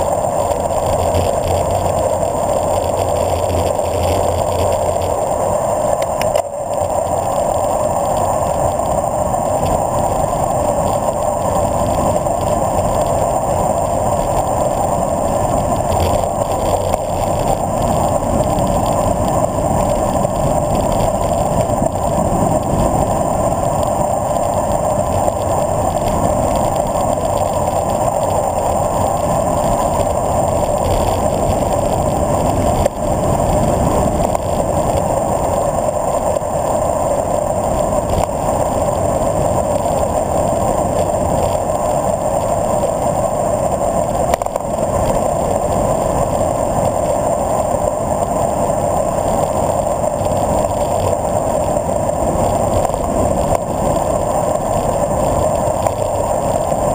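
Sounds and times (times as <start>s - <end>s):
wind buffeting camera: 0.0s - 56.9s.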